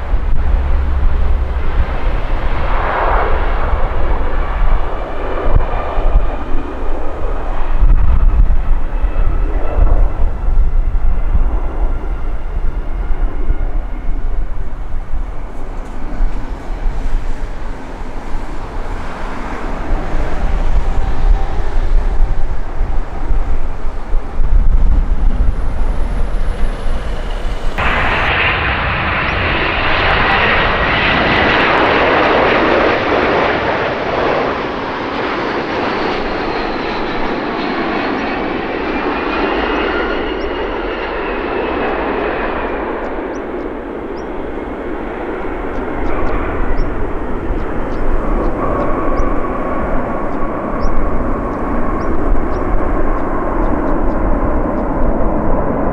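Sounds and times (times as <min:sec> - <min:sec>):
faint whine: 0:00.0 - 0:32.9, 0:34.0 - 0:55.9
aircraft engines roaring: 0:00.0 - 0:55.9
low rumble: 0:00.0 - 0:55.9.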